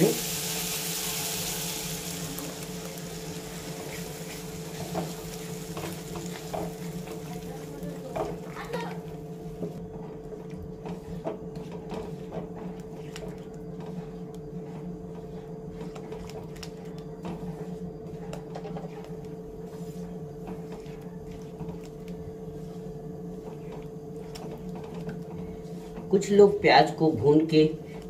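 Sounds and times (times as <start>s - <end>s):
cooktop hum: 0.0s - 28.0s.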